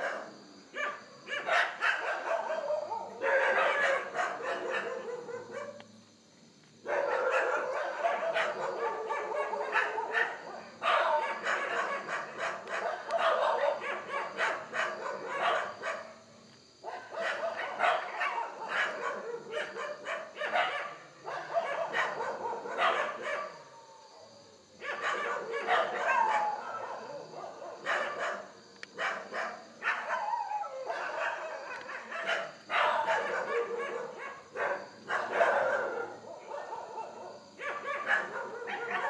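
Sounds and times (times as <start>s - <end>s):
dogs barking: 0.0s - 5.9s, 6.8s - 39.0s.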